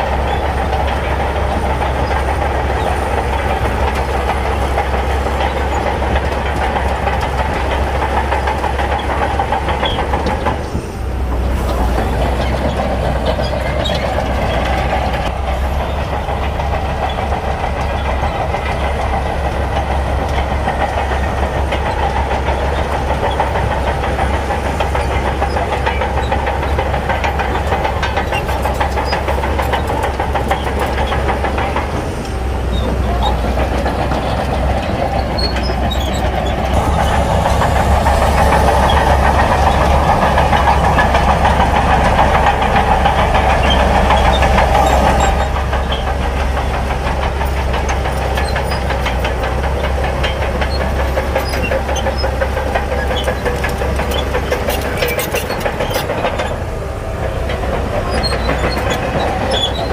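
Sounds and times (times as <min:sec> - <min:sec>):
diesel earthmoving machinery clattering: 0:00.0 - 0:59.9.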